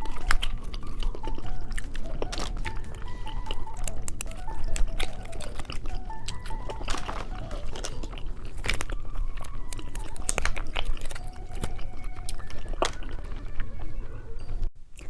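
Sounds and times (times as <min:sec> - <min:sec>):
mouth clicking: 0:00.0 - 0:15.0
person chewing candy: 0:00.0 - 0:15.0.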